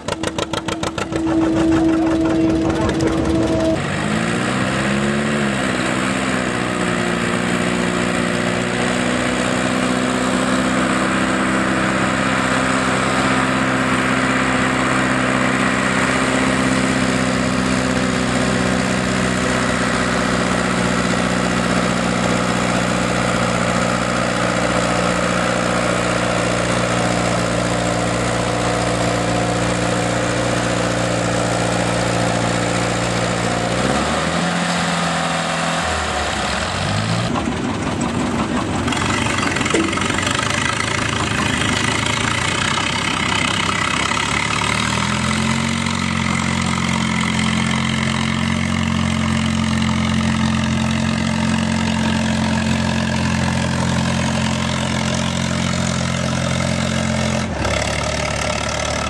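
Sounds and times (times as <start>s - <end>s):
tractor engine idling and revving: 0.0s - 59.0s.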